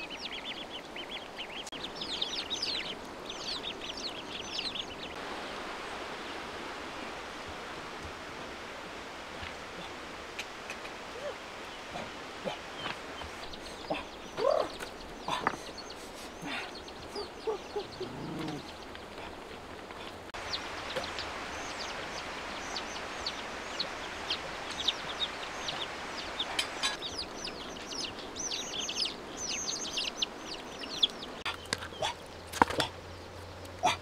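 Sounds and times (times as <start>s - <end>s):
ducklings peeping: 0.0s - 5.2s, 11.1s - 34.0s.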